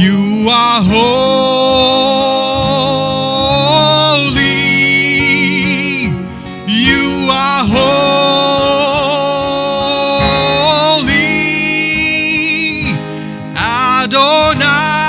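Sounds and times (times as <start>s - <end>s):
guitar: 0.0s - 15.0s
keyboard: 0.0s - 15.0s
person singing worship song: 0.0s - 15.0s.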